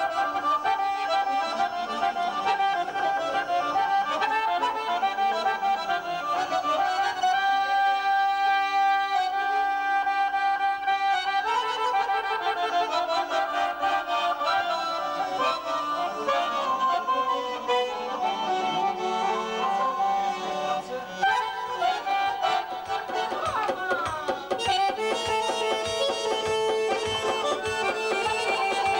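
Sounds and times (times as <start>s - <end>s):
button accordion melody: 0.0s - 28.9s.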